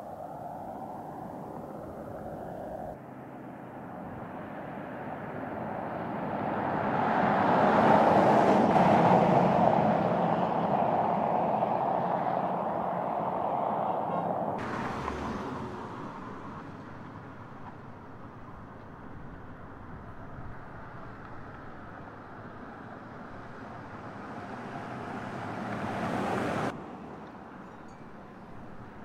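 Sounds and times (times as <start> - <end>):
car engine and tyre noise: 0.0 - 29.0.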